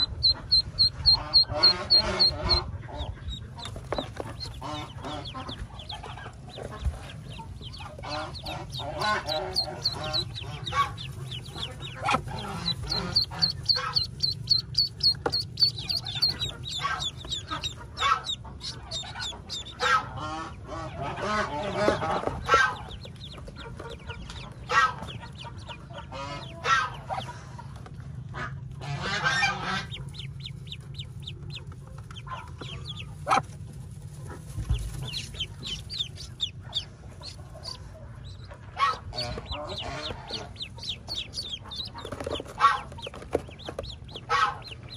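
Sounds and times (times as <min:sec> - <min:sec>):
ducklings peeping: 0:00.0 - 0:44.9
steady low hum: 0:00.0 - 0:44.9.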